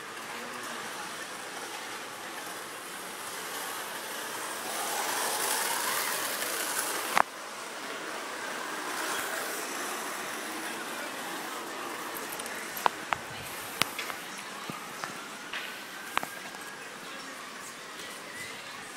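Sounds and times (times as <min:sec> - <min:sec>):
street traffic: 0:00.0 - 0:18.9.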